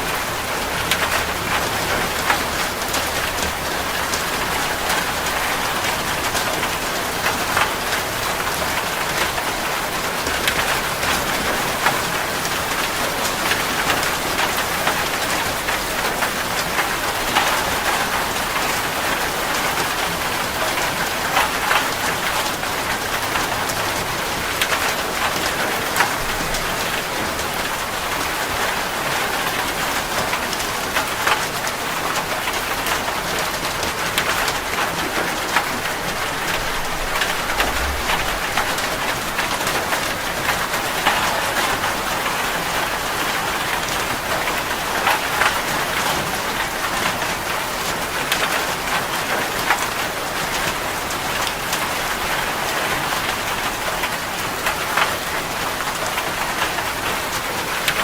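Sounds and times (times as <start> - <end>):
rain falling: 0.0 - 58.0
raindrops ticking close by: 0.0 - 58.0.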